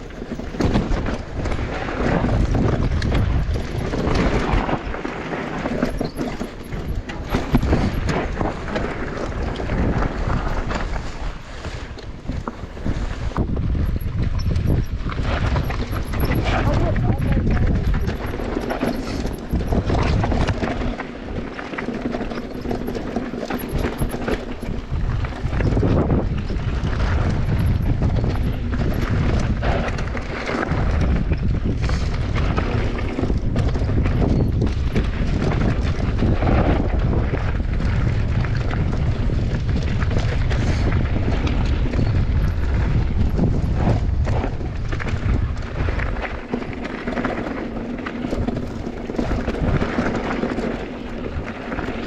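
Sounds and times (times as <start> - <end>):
bike knocks and rattles: 0.0 - 11.2, 12.0 - 52.0
tyres rushing on dirt: 0.0 - 11.4, 12.2 - 52.0
wind buffeting microphone: 0.0 - 52.0.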